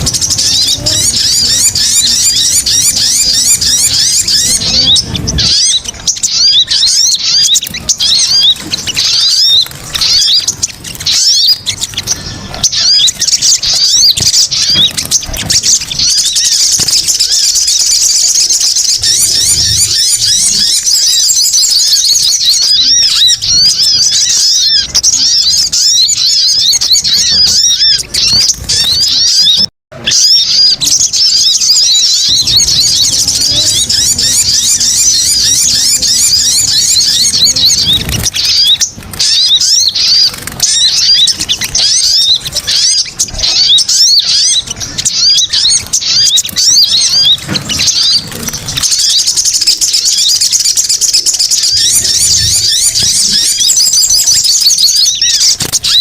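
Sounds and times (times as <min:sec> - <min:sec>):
birds chirping in chorus: 0:00.0 - 0:56.0.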